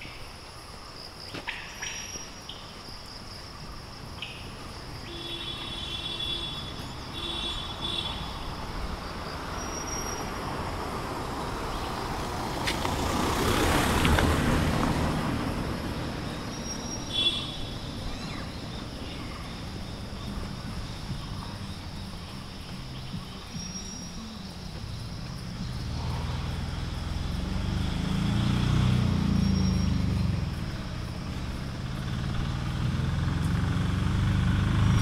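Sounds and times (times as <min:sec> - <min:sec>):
vehicle passing on road: 0:03.3 - 0:35.0.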